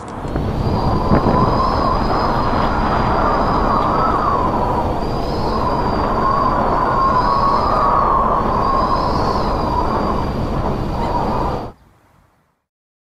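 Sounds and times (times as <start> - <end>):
loud steady rushing noise: 0.0 - 11.8
wavering high whine: 0.0 - 11.8.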